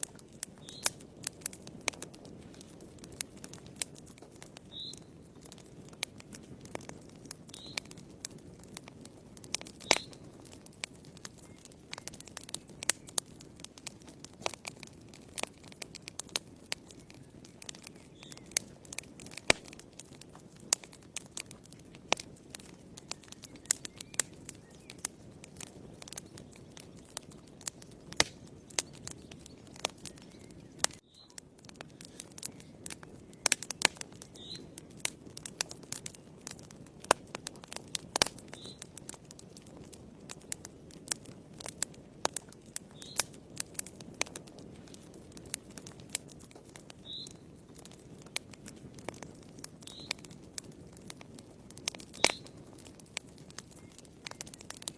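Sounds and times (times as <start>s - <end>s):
fire crackling and popping: 0.0s - 54.9s
low rumble of flames: 0.0s - 54.9s.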